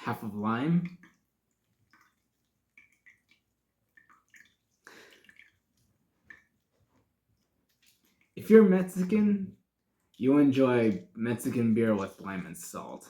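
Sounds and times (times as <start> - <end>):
liquid drips: 0.0 - 13.0.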